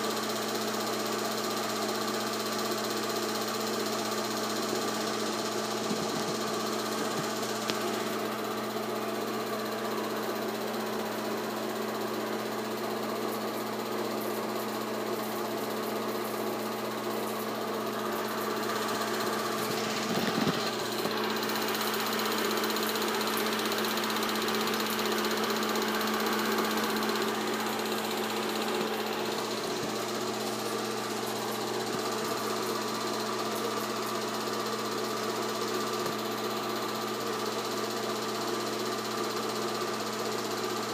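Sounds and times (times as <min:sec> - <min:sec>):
film projector humming: 0:00.0 - 0:40.9.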